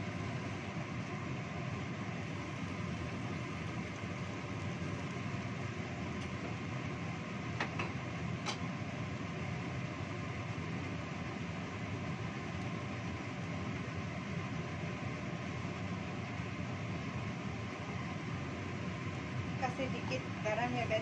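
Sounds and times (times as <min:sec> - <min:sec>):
gas stove burner rumble: 0:00.0 - 0:21.0.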